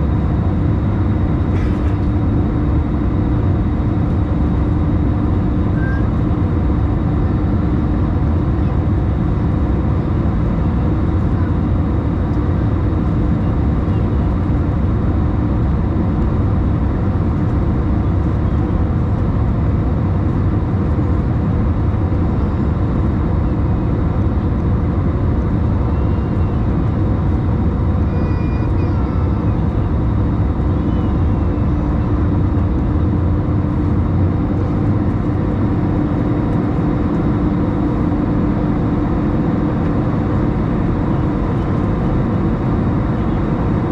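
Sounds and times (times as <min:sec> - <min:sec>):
airplane cabin engine noise: 0:00.0 - 0:43.9
steady hum: 0:00.0 - 0:43.9.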